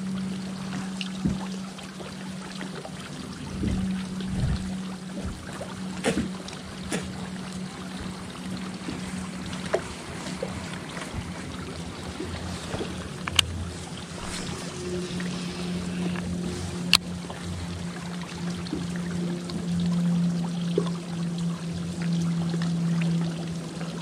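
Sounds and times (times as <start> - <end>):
boat motor humming: 0.0 - 24.0
water lapping against hull: 0.0 - 24.0.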